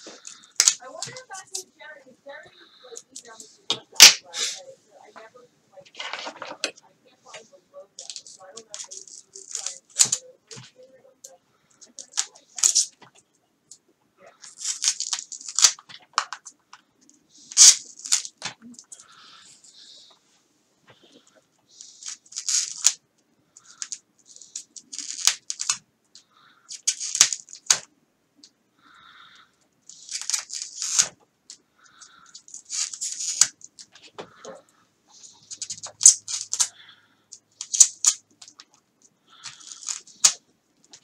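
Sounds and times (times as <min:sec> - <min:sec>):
foam scratching and crackling: 0:00.0 - 0:13.2, 0:14.2 - 0:16.6, 0:17.3 - 0:23.0, 0:23.6 - 0:25.8, 0:29.9 - 0:31.2, 0:31.8 - 0:37.0, 0:37.6 - 0:41.0.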